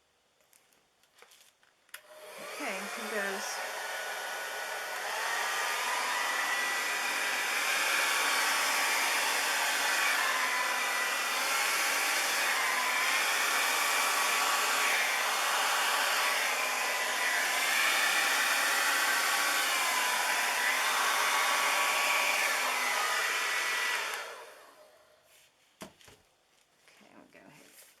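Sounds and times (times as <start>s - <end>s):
hair dryer running: 2.0s - 25.0s.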